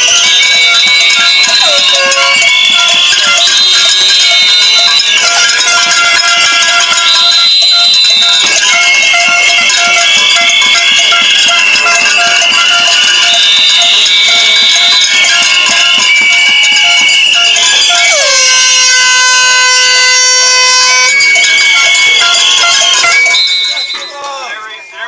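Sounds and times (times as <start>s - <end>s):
handheld air horns blowing: 0.0s - 24.8s.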